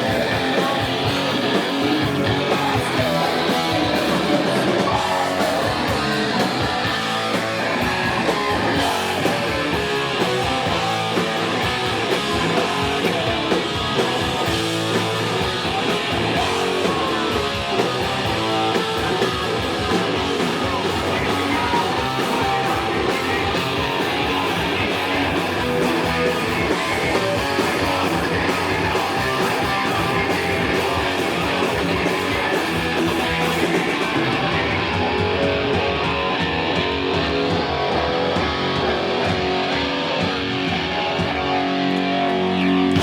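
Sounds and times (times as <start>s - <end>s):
distorted electric guitars: 0.0s - 43.0s
drums: 0.0s - 43.0s.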